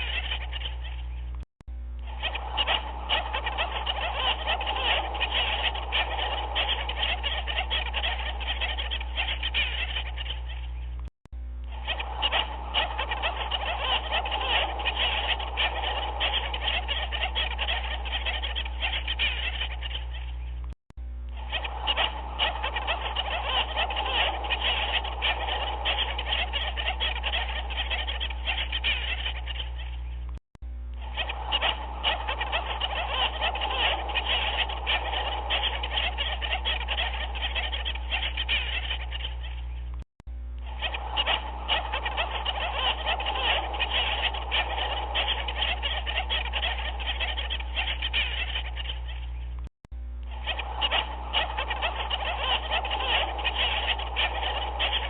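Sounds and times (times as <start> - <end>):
chorus of animal calls: 0.0 - 1.4, 2.0 - 11.0, 11.6 - 20.6, 21.2 - 30.3, 30.9 - 40.0, 40.6 - 49.6, 50.2 - 55.0
steady low hum: 0.0 - 55.0.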